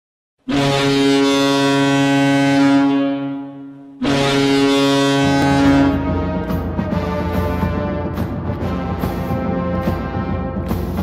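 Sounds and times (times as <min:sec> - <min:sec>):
goal horn blasts: 0:00.5 - 0:09.9
pep band music: 0:00.5 - 0:11.0.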